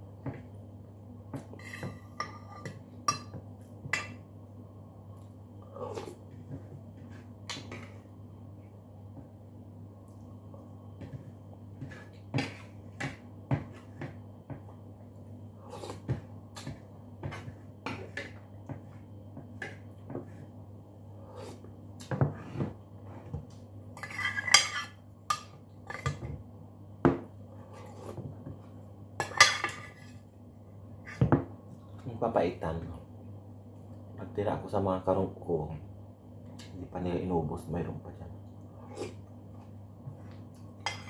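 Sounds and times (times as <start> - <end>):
faint low hum: 0.0 - 41.0.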